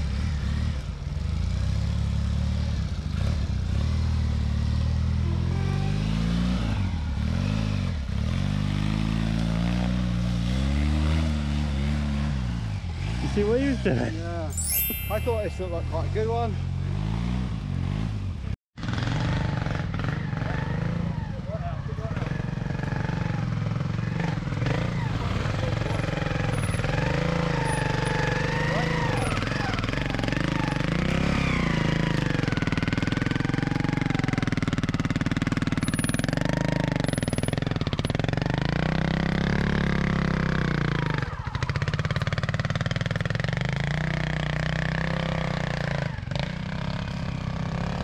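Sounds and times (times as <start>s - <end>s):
two-stroke motorcycle engine revving: 0.0s - 14.5s, 15.3s - 48.0s.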